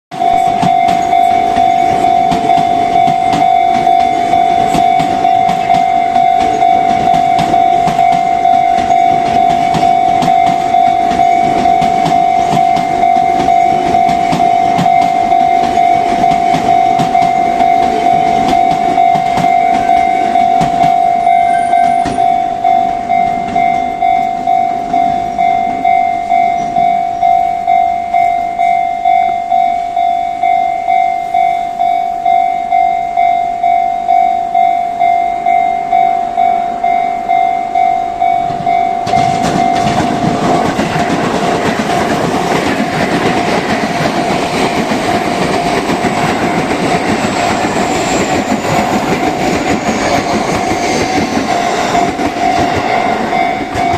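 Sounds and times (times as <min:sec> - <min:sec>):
train wheels clacking: 0:00.1 - 0:32.0, 0:35.0 - 0:53.9
level crossing alarm ringing: 0:00.1 - 0:53.9.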